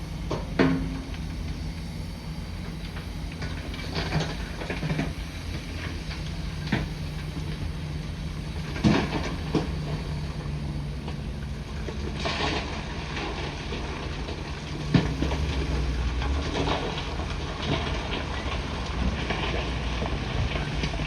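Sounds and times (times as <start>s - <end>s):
bulldozer engine running: 0.0s - 21.0s.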